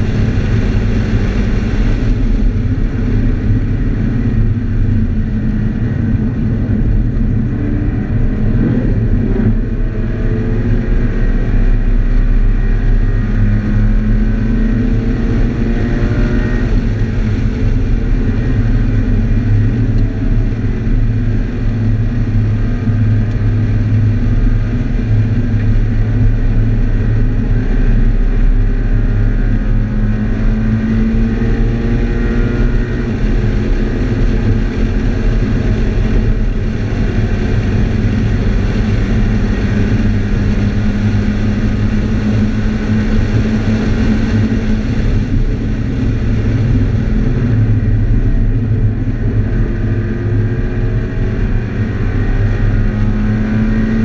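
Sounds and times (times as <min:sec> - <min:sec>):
car engine revving: 0:00.0 - 0:54.0
steady road noise: 0:00.0 - 0:54.0.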